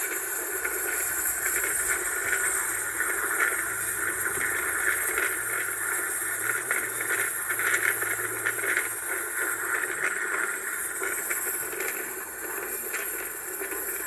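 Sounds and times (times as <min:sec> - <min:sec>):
helicopter turbine whine: 0:00.0 - 0:14.0.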